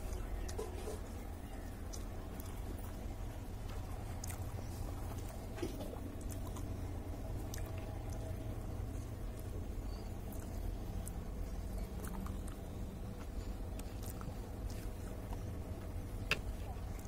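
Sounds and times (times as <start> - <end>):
steady low hum: 0.0 - 17.0
wet chewing and squishing: 0.0 - 17.0.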